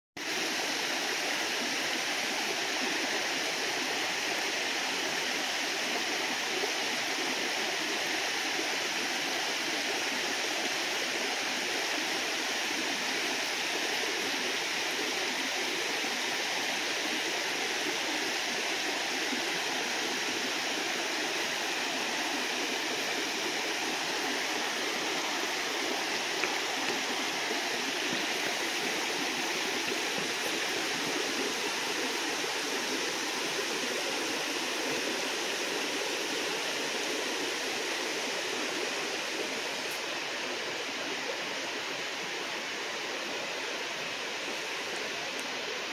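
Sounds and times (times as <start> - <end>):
creek water rushing over rocks: 0.2 - 45.9.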